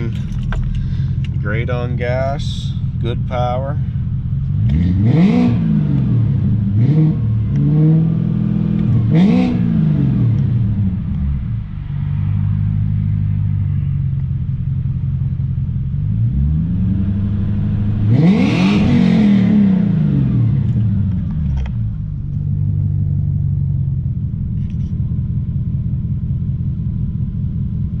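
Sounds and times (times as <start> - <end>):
car engine exhaust note: 0.0 - 28.0.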